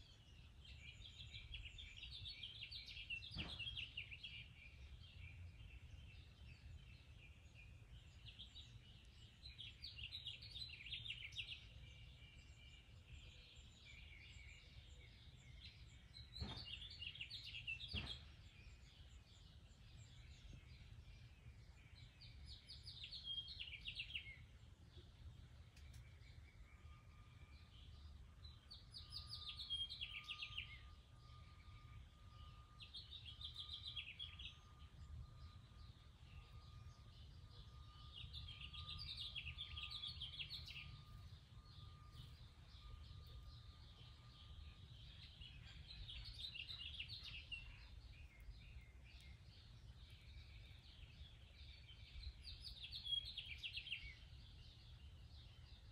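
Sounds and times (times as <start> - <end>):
faint songbird trills: 0.0 - 55.9.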